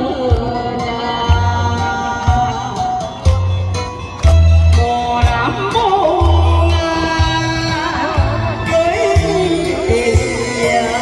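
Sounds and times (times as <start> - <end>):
person singing with vibrato: 0.0 - 3.3, 4.7 - 11.0
bass and drum beat: 0.0 - 11.0.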